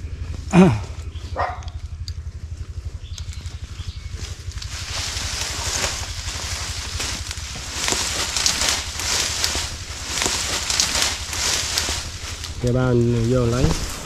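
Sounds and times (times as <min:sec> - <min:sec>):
leaves and branches rustling: 0:00.0 - 0:14.0
pulsing low rumble: 0:00.0 - 0:14.0.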